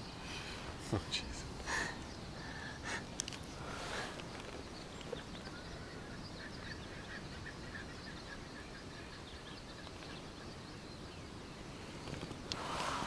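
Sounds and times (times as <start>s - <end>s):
low background hiss and rumble: 0.0s - 13.0s.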